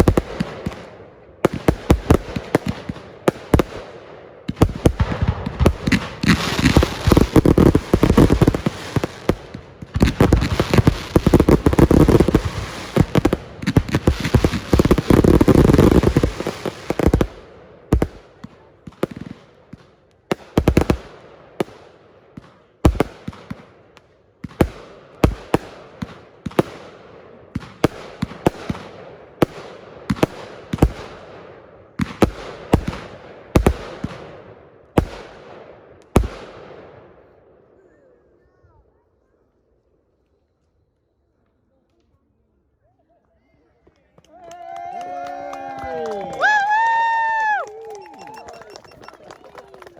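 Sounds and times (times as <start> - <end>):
fireworks bangs and crackling: 0.0 - 37.6, 45.7 - 49.9.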